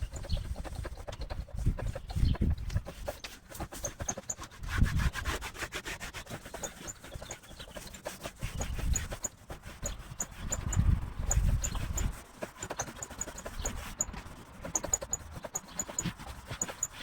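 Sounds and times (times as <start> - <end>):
rubbing and scraping on surface: 0.0 - 17.0.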